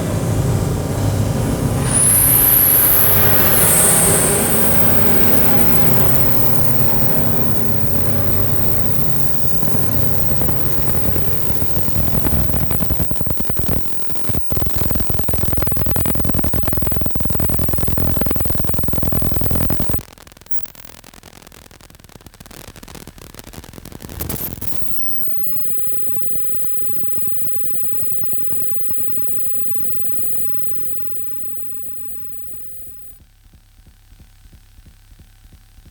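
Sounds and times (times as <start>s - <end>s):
noisy electronic synthesizer drone: 0.0s - 21.0s, 24.2s - 33.2s.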